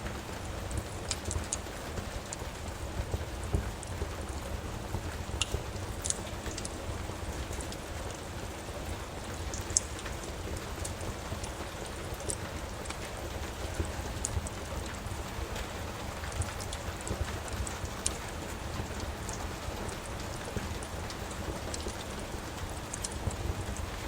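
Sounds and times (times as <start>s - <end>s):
steady rain: 0.0s - 24.0s
wood fire popping and crackling: 0.0s - 24.0s.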